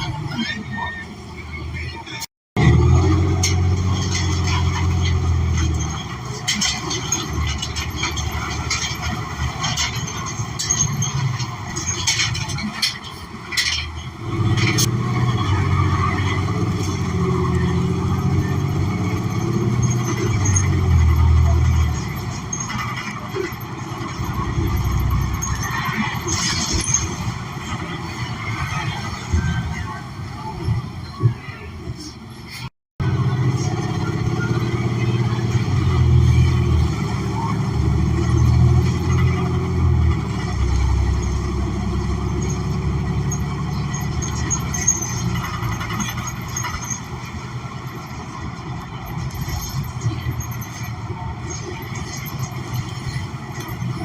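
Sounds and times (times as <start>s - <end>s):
bus engine rumble: 0.0s - 54.0s
road noise: 0.0s - 54.0s.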